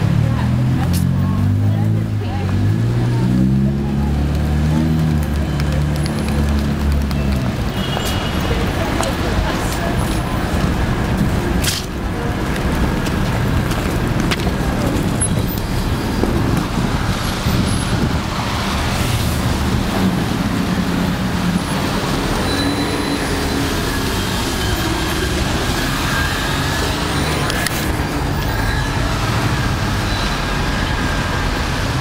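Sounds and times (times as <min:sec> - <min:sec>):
traffic on wet road: 0:00.0 - 0:32.0.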